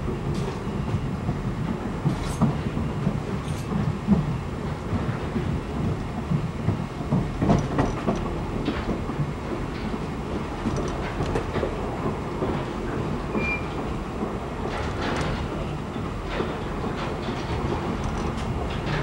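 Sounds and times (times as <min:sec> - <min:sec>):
train rumble: 0:00.0 - 0:19.0
wheels clacking over rail joints: 0:01.7 - 0:19.0.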